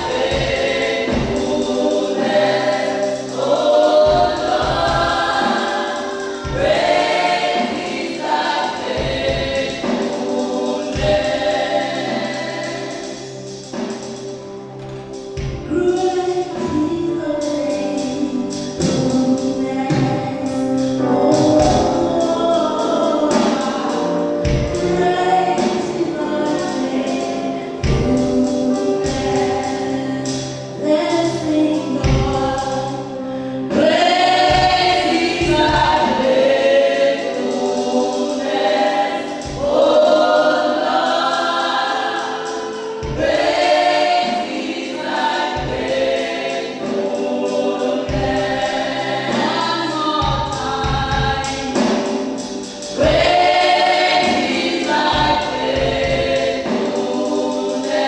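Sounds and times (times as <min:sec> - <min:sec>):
choir singing gospel music: 0:00.0 - 0:58.0.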